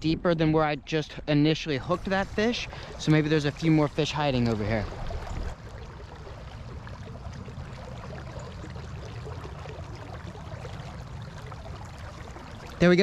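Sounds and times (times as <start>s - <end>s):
river flowing over shallows: 1.9s - 13.0s.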